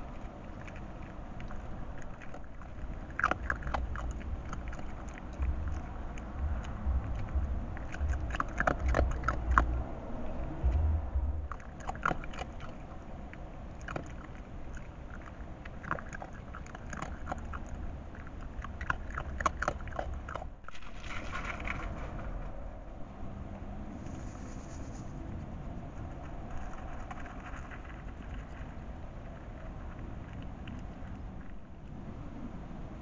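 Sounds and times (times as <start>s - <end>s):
fox chewing and crunching: 0.0s - 22.6s, 25.1s - 32.0s.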